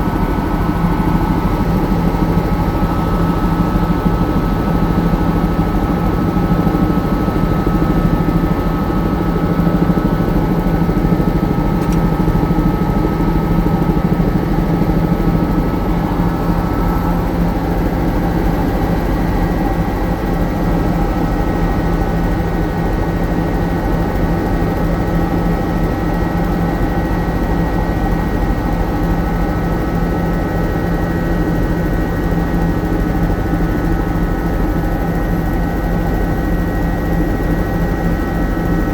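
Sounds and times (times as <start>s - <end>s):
helicopter in flight: 0.0s - 38.9s.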